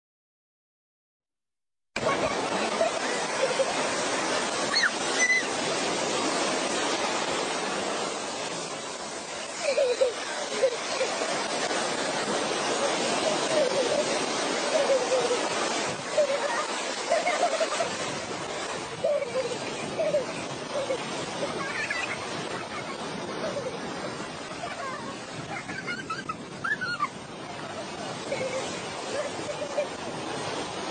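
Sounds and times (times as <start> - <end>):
surf rushing: 2.0 - 30.9.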